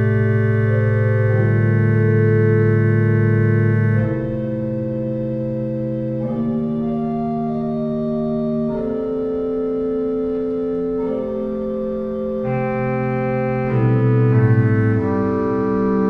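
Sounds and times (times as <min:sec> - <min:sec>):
organ playing sustained chords: 0:00.0 - 0:16.0.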